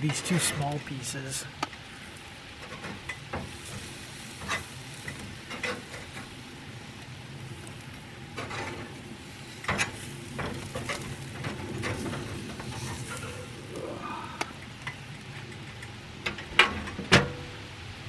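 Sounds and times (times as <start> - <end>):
meat sizzling on a grill: 0.0 - 18.0.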